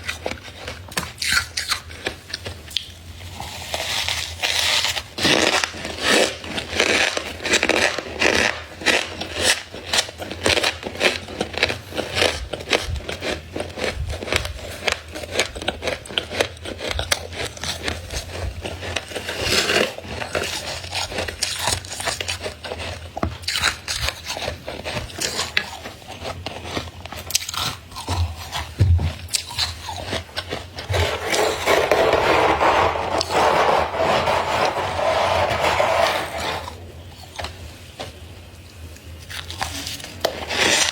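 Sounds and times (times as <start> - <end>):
frost being scraped and crunched: 3.2 - 36.8, 39.3 - 40.9.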